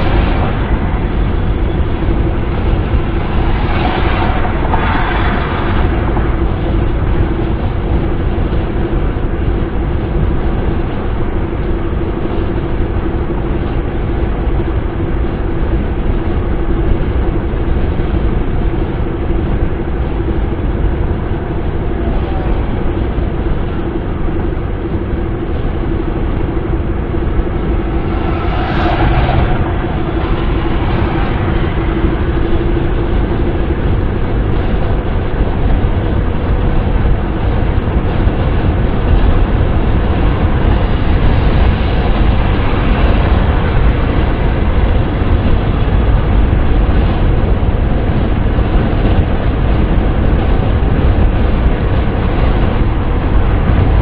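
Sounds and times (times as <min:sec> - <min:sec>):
car road and wind noise: 0:00.0 - 0:54.0.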